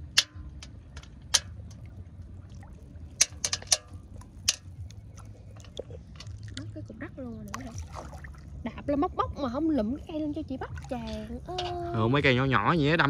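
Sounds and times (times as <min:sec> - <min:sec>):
low steady rumble: 0:00.0 - 0:13.0
water sloshing and splashing: 0:00.0 - 0:13.0.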